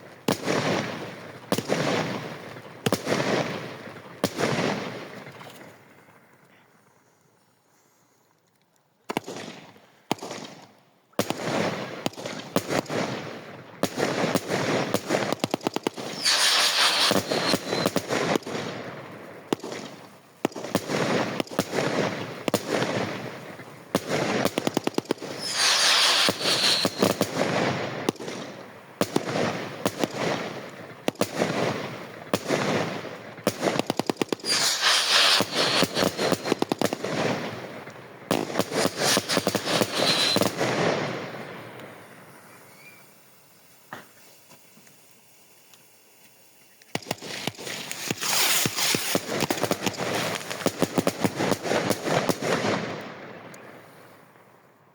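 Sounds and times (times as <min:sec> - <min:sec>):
fireworks shots and crackling: 0:00.0 - 0:05.5, 0:09.1 - 0:43.2, 0:46.9 - 0:54.5.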